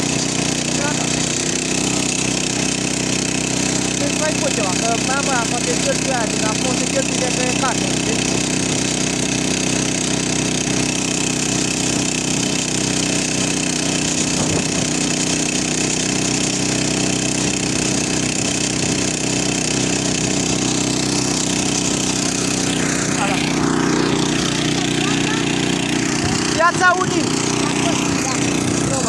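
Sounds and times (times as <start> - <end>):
tractor engine running steadily: 0.0 - 29.0.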